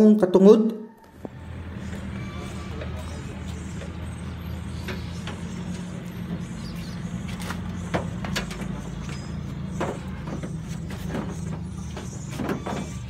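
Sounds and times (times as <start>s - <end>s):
engine droning: 1.0s - 13.0s.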